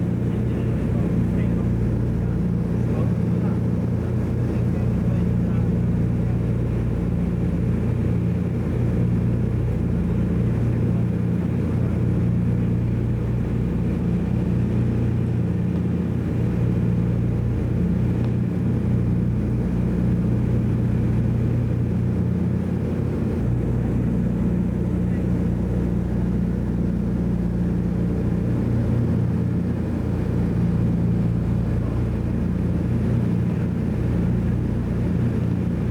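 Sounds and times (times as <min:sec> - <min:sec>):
propeller plane engines droning: 0:00.0 - 0:35.9.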